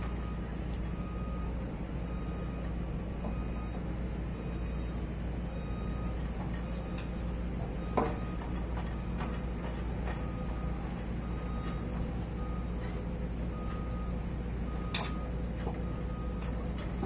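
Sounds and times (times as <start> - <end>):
insects chirping: 0.0 - 17.0
steady low hum: 0.0 - 17.0.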